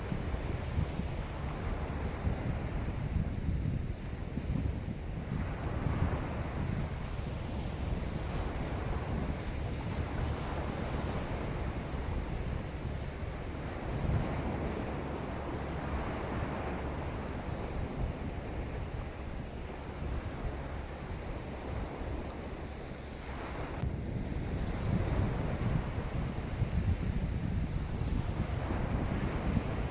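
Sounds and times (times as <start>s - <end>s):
surf on sand beach: 0.0s - 29.9s
wind buffeting microphone: 0.0s - 29.9s.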